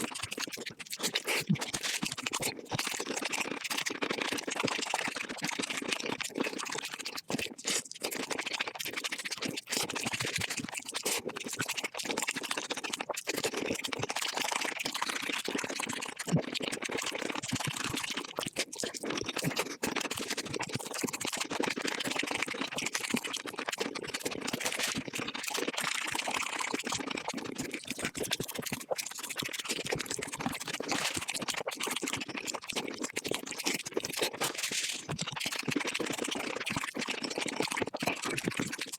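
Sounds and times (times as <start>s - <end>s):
sped-up chewing and crunching: 0.0s - 38.9s.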